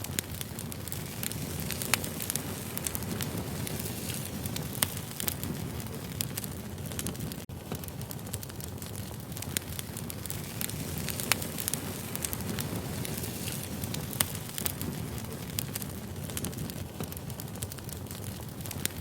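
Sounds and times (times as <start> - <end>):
firewood burning with crackles: 0.0 - 19.0
sharp pops from fire: 0.0 - 19.0.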